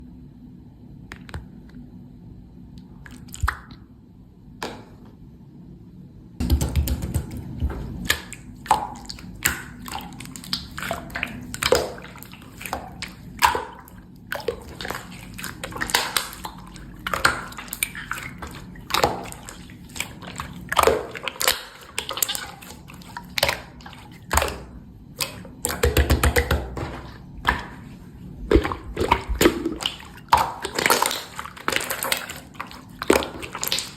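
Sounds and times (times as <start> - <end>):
slime squelching: 2.8 - 3.8, 6.6 - 33.9.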